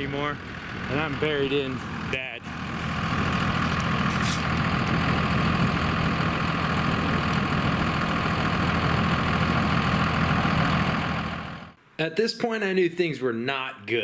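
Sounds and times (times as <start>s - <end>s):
pickup truck engine running: 0.0s - 11.8s.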